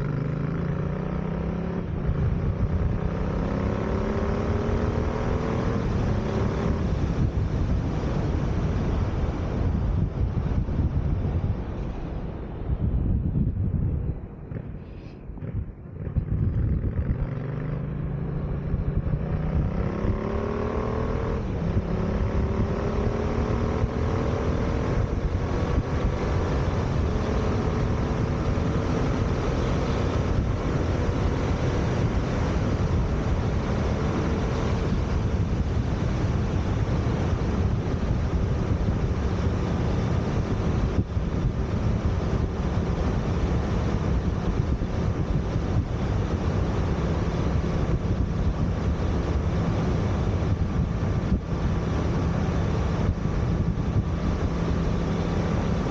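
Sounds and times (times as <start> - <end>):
motorcycle engine accelerating: 0.0 - 11.6, 12.9 - 55.9
wind rushing: 1.2 - 55.9.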